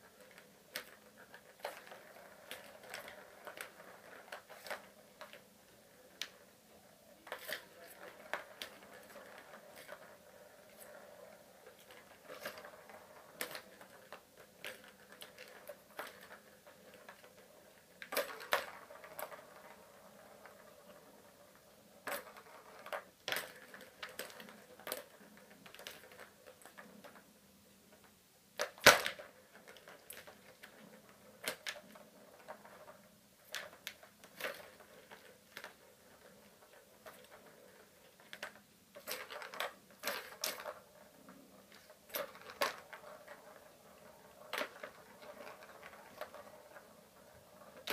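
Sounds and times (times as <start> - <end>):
plastic balls rattling in track toy: 0.0 - 6.5, 7.2 - 27.3, 27.9 - 47.9.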